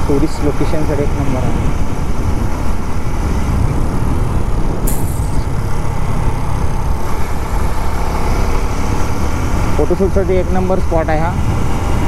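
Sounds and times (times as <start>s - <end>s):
motorcycle engine running: 0.0s - 12.0s
wind buffeting helmet microphone: 0.0s - 12.0s.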